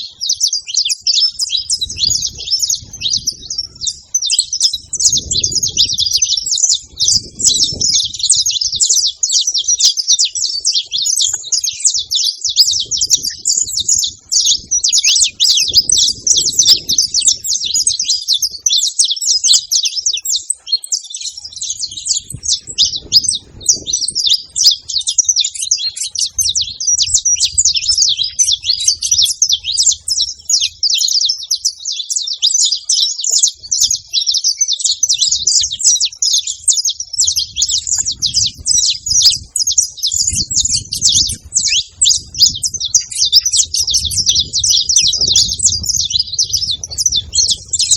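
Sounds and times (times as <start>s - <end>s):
flock of finches chirping: 0.0s - 47.9s.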